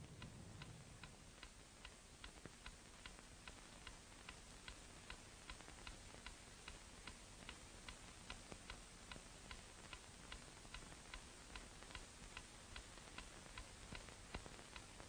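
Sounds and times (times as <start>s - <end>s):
clock ticking: 0.0s - 14.9s
soundtrack hiss: 0.0s - 15.0s.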